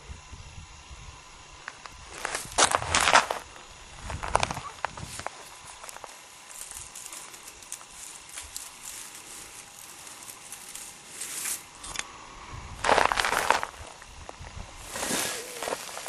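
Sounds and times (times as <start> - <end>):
dry grass rustling and crackling: 1.6 - 12.1, 12.8 - 16.0.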